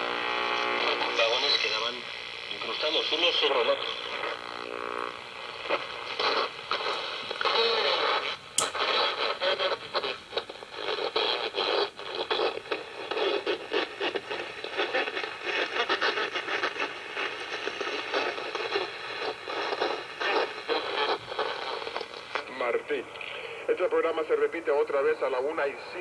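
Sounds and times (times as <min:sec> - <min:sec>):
radio static: 0:00.0 - 0:26.0
shortwave radio broadcast: 0:00.0 - 0:26.0.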